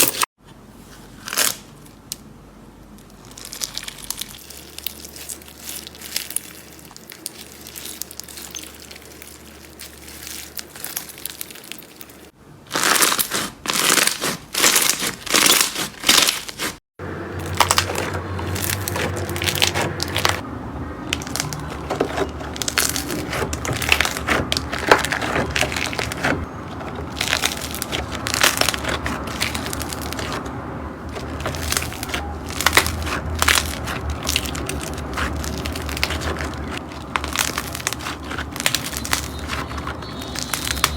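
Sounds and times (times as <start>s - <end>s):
slime crackling and crunching: 1.1s - 2.2s, 3.0s - 20.4s, 21.0s - 40.9s.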